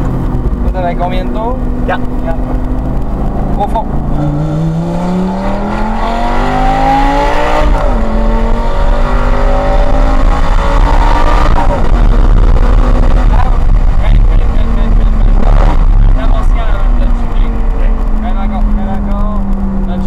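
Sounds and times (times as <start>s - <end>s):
car engine accelerating hard: 0.0s - 20.0s
road and wind rumble: 0.0s - 20.0s.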